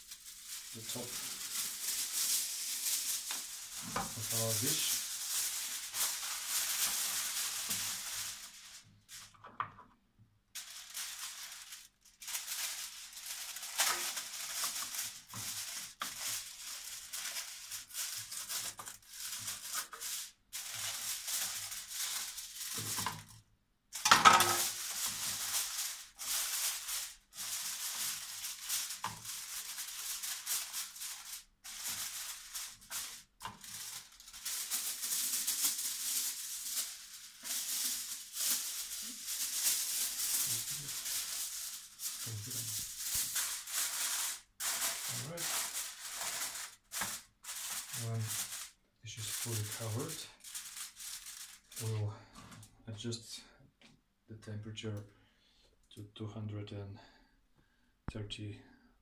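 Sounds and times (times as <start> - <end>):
aluminium foil crinkling: 0.0 - 9.8, 10.5 - 52.7.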